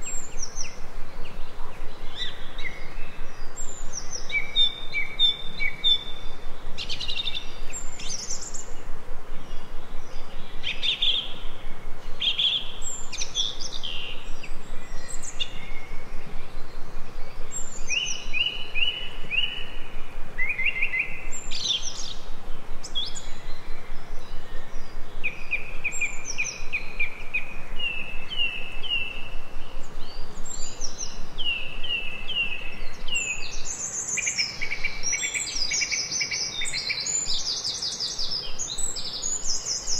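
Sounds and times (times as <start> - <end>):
birds singing: 0.0 - 39.9
steady hiss: 0.0 - 39.9.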